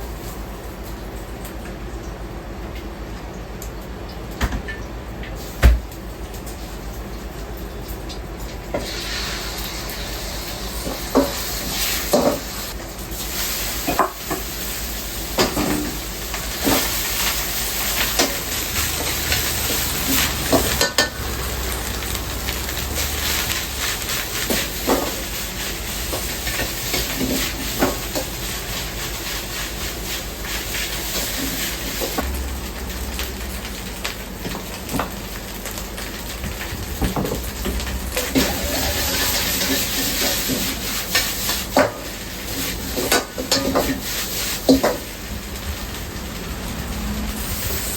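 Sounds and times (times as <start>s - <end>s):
food sizzling in a pan: 8.6s - 47.9s.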